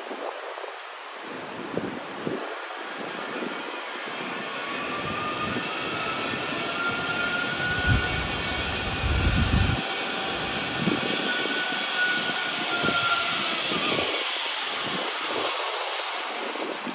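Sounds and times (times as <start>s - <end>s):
wind buffeting microphone: 0.0s - 16.9s
zip-line trolley whirring on cable: 0.0s - 16.9s.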